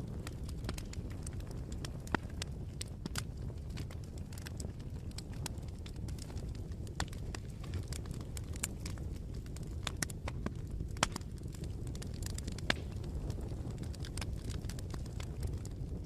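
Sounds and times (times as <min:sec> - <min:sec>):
bonfire crackling and popping: 0:00.0 - 0:16.0
low rumble of burning fire: 0:00.0 - 0:16.0.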